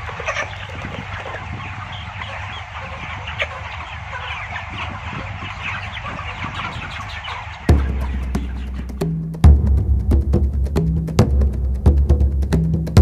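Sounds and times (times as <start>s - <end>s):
chickens clucking and peeping: 0.0s - 11.1s.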